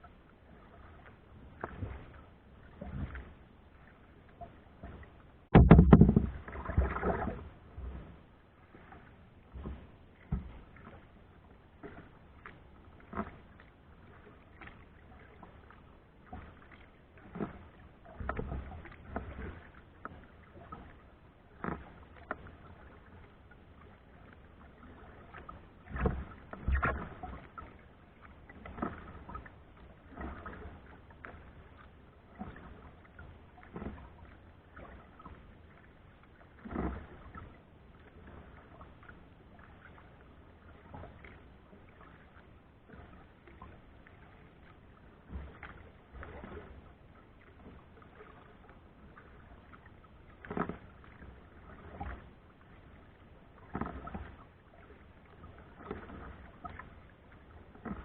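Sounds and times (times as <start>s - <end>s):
kayak paddle splashing: 0.0s - 58.0s.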